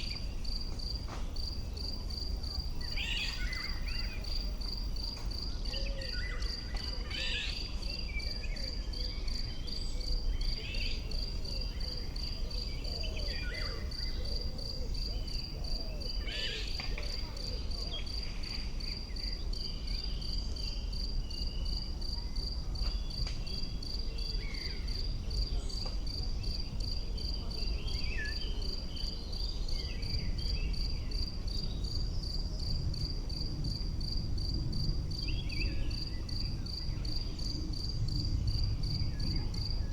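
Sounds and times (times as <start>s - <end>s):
insect chirping in pulsing rhythm: 0.0s - 27.5s, 29.0s - 39.9s.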